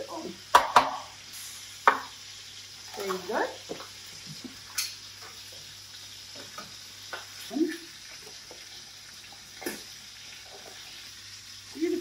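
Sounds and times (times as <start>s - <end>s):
fat sizzling in a frying pan: 0.0s - 12.0s.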